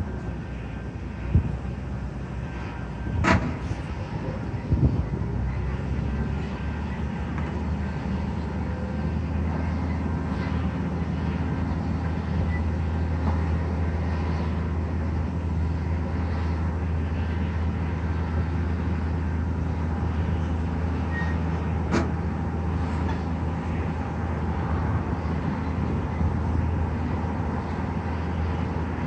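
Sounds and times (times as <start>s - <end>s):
construction machinery engine drone: 0.0s - 29.0s
distant city traffic: 0.0s - 29.0s.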